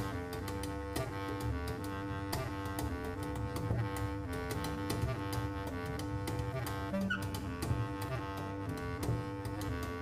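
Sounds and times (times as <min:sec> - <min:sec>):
bass clarinet: 0:00.0 - 0:10.0
double bass: 0:00.0 - 0:10.0.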